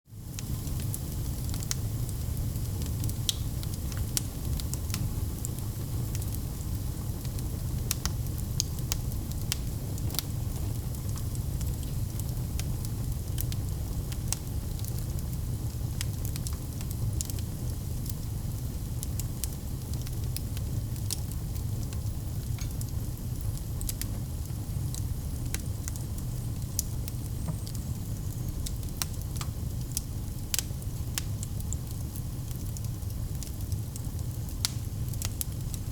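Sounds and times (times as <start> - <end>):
wood fire crackling and popping: 0.2 - 35.9.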